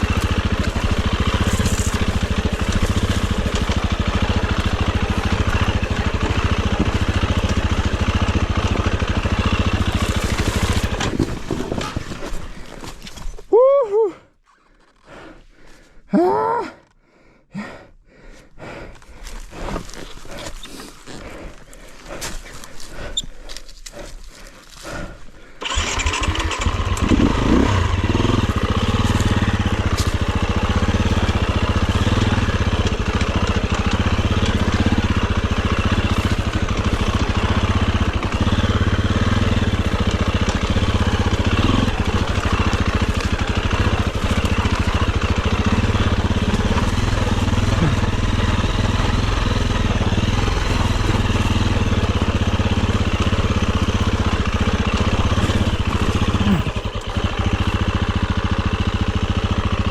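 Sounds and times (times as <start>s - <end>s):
dirt bike engine running: 0.0s - 13.4s, 18.6s - 59.9s.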